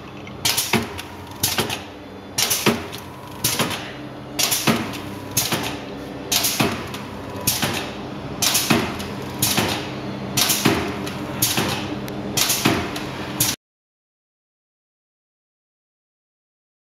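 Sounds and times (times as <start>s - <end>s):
motor hum: 0.0s - 13.6s.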